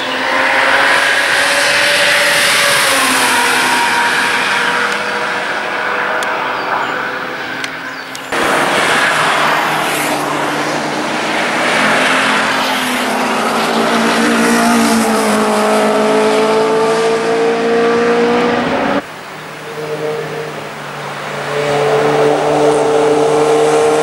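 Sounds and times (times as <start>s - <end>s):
car engine under load: 0.0s - 24.0s
race car engines: 0.0s - 24.0s.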